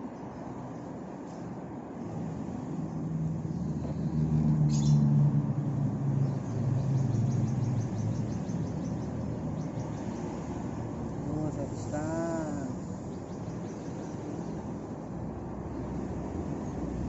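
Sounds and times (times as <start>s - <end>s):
passing vehicle engine hum: 0.0s - 17.0s.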